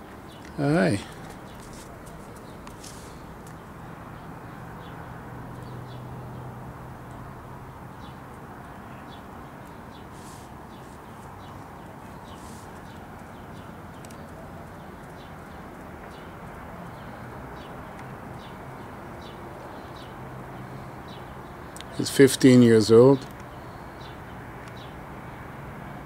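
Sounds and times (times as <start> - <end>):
small birds chirping: 0.0 - 25.5
outdoor background hiss: 0.0 - 26.0.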